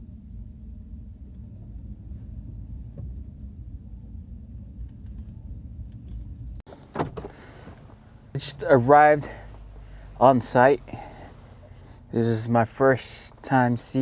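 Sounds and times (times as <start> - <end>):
car interior road and engine noise: 0.0 - 14.0.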